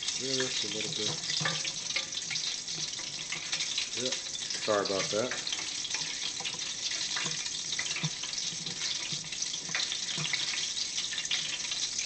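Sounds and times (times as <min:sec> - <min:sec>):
deep fryer oil hissing and crackling: 0:00.0 - 0:12.0.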